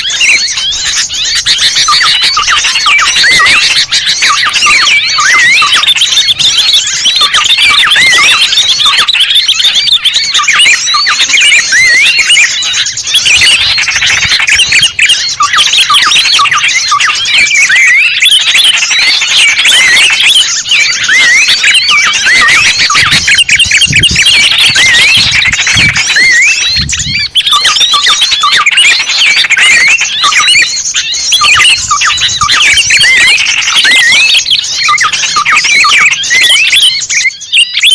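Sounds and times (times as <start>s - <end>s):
songbirds chirping and twittering: 0.0s - 37.9s.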